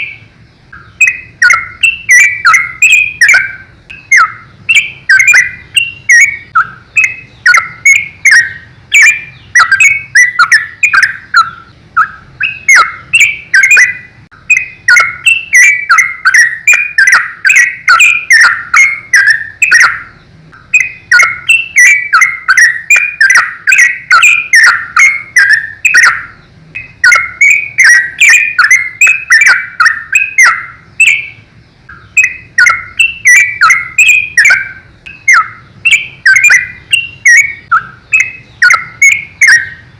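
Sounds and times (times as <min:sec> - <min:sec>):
bird singing bubbling notes: 0:00.0 - 0:39.9.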